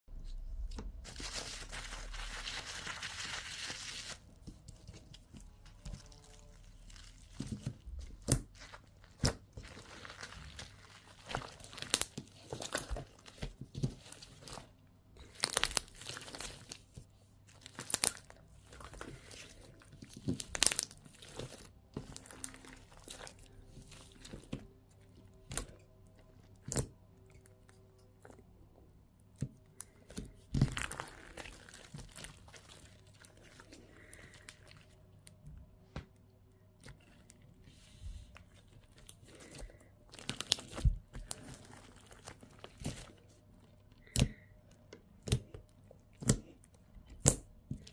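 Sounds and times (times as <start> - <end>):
slime crackling and crunching: 0.6 - 28.5, 29.2 - 35.4, 36.8 - 44.5.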